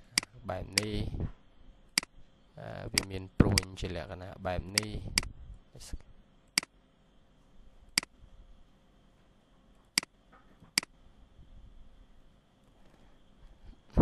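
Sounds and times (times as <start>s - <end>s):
faint electrical whine: 0.0s - 14.0s.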